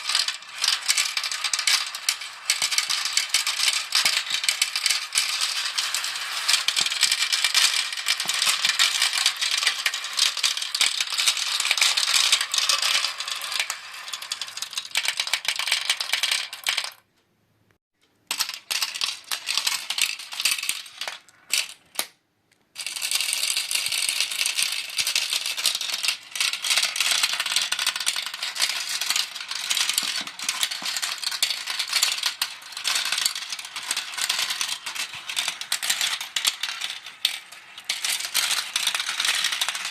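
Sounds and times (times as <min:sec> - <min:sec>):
marbles clattering through plastic run: 0:00.0 - 0:17.0, 0:18.3 - 0:22.1, 0:22.8 - 0:39.9.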